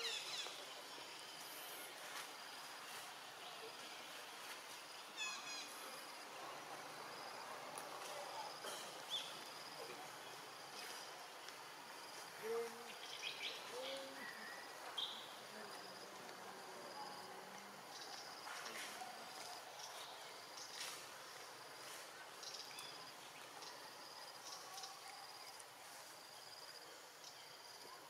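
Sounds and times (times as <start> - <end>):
insect hiss: 0.0 - 28.0.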